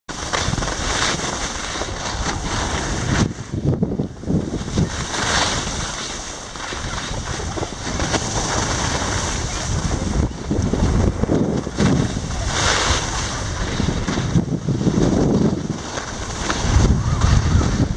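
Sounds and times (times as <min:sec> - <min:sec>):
skis sliding on packed snow: 0:00.1 - 0:17.9
wind buffeting microphone: 0:00.2 - 0:17.9.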